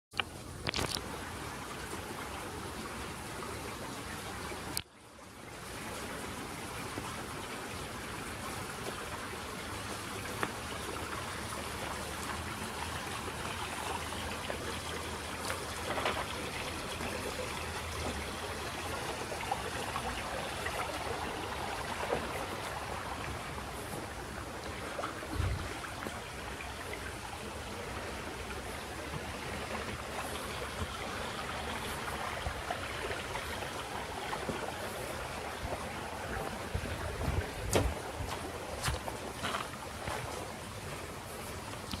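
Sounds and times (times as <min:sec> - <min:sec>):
brook trickling: 0:00.2 - 0:42.0.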